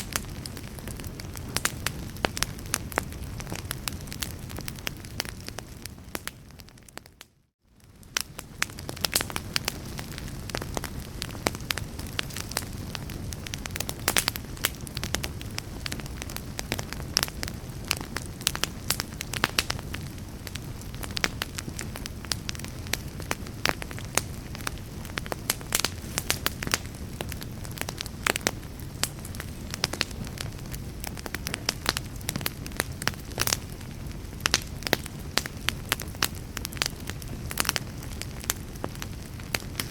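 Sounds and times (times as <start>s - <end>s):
fire crackling: 0.0s - 39.9s
sharp pops of fire: 7.8s - 39.9s.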